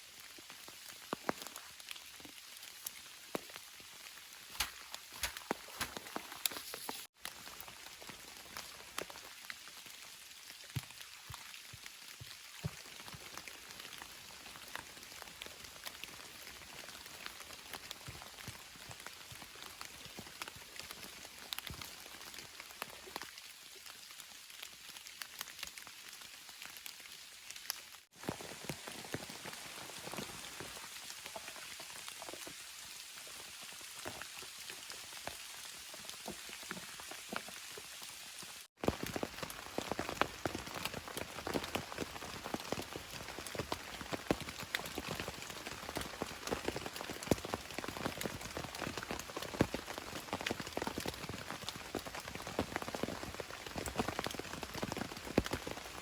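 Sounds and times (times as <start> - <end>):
steady rain with ticking drops: 0.0 - 56.0.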